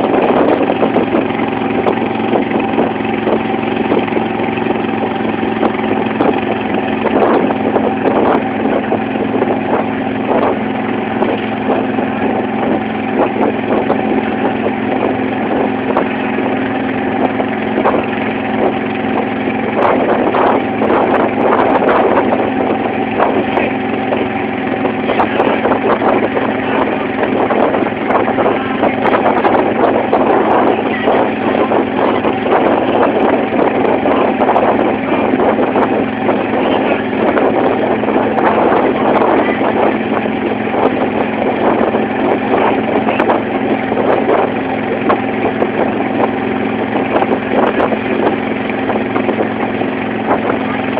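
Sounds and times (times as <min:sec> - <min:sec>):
motorboat engine running: 0:00.0 - 0:50.9
water splashing along hull: 0:00.0 - 0:50.9.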